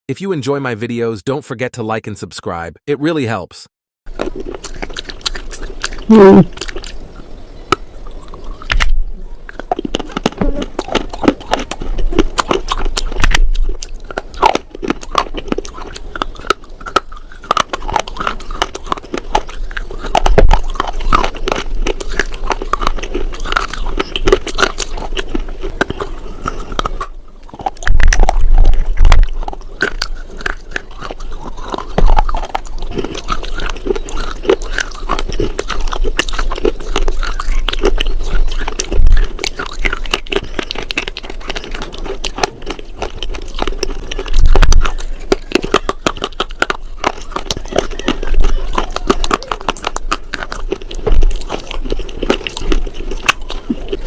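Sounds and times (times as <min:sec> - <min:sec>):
chewing brittle crunches: 0:04.1 - 0:54.0.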